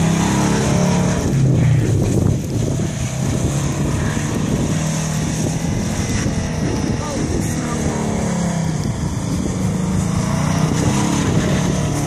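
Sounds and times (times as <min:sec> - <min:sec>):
car engine under throttle: 0:00.0 - 0:12.0
wind noise on microphone: 0:00.0 - 0:12.0.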